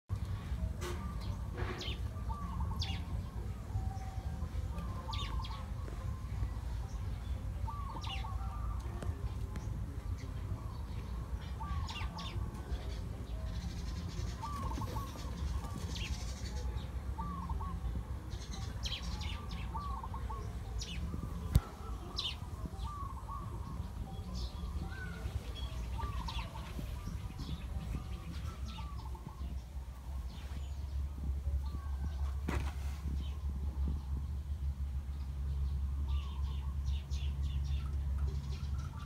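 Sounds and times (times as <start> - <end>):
steady low rumble: 0.1 - 39.0
bird calls: 0.2 - 34.4, 35.1 - 39.0.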